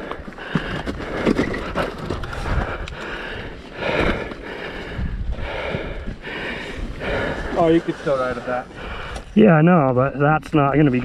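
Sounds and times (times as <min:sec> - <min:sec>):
person breathing hard: 0:00.0 - 0:09.4.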